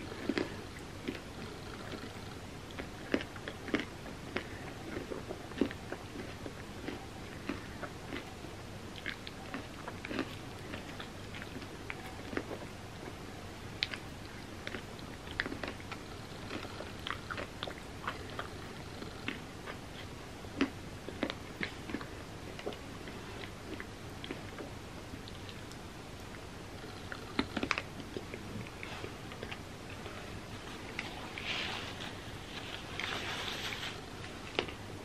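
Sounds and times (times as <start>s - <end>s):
person chewing ice cream: 0.0s - 35.0s.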